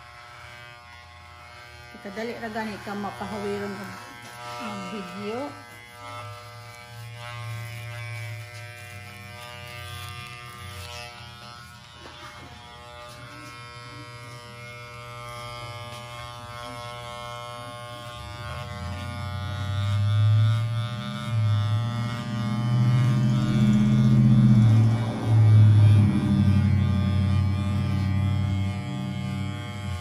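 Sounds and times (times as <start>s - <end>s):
electric hair clipper buzzing: 0.0s - 30.0s.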